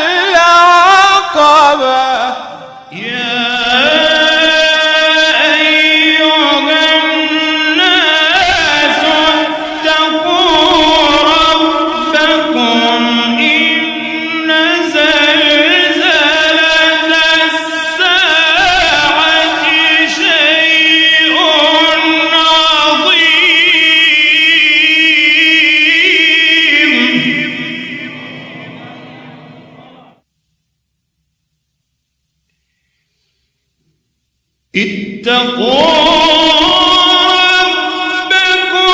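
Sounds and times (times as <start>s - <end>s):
person chanting recitation: 0.0s - 30.2s, 34.7s - 38.9s.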